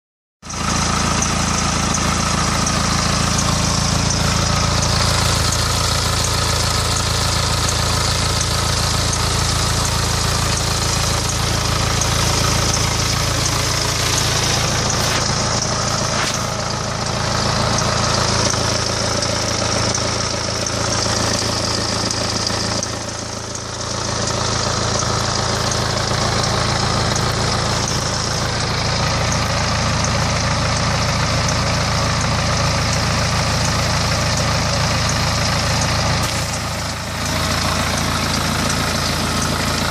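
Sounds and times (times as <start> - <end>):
diesel engine idling: 0.4 - 39.9
engine ticking: 0.4 - 39.9.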